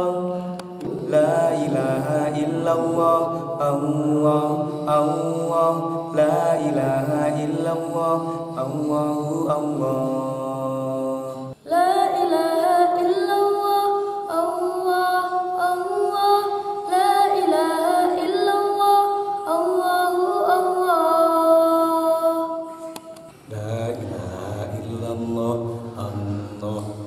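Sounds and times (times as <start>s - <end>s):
lower sung voice: 0.0s - 27.0s.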